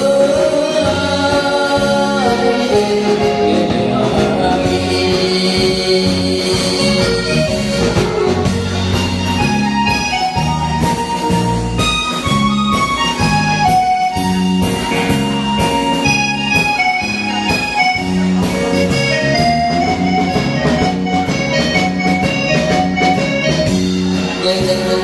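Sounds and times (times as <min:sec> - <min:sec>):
accordion-like keyboard melody: 0:00.0 - 0:25.0
drum kit beat: 0:00.0 - 0:25.0.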